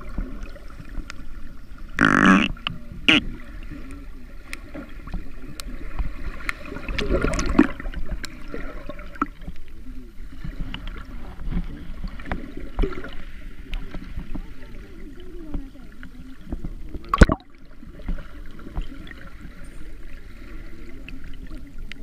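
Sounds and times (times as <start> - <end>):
underwater low rumble: 0.0 - 22.0
water gurgling: 0.0 - 22.0.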